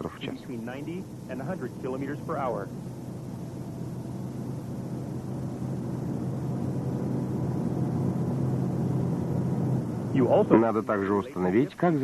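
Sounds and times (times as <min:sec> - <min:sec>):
car driving at highway speed: 0:00.4 - 0:11.6.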